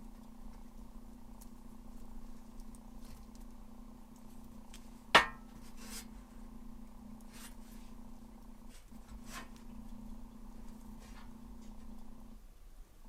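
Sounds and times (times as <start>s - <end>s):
low hum: 0.0s - 13.0s
soft hissing rustles: 0.0s - 13.0s.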